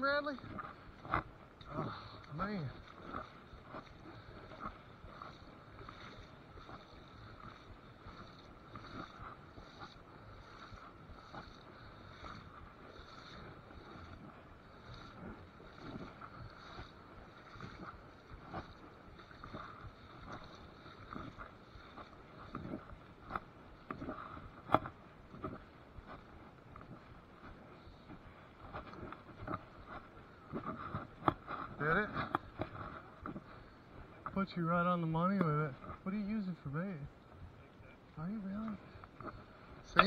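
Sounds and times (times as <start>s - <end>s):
river water over gravel: 0.0s - 40.0s.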